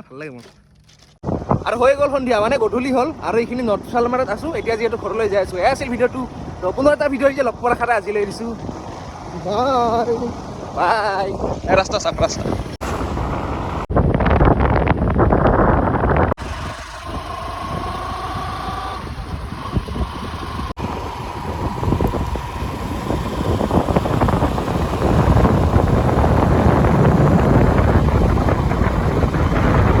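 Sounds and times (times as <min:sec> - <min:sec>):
vehicle engine and road noise: 0:00.0 - 0:30.0
wind buffeting microphone: 0:01.2 - 0:30.0.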